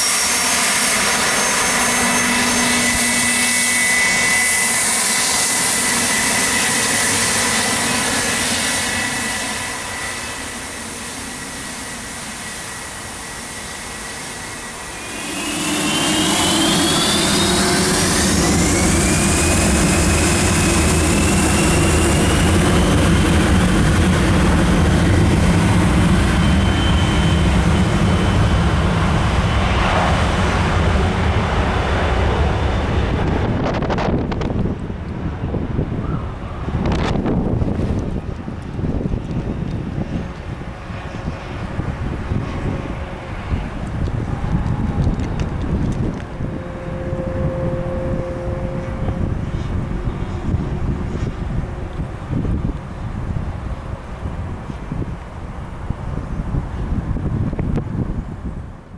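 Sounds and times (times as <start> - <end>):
jet engine whine: 0.0 - 58.9
loud low engine noise: 0.0 - 58.9.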